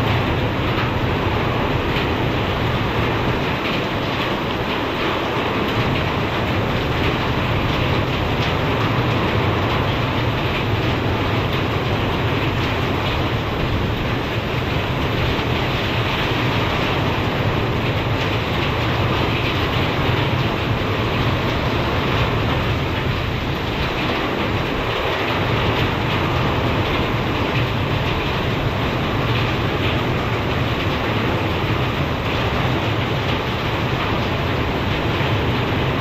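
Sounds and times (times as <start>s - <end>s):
heavy rain: 0.0s - 36.0s
strong gusting wind: 0.0s - 36.0s.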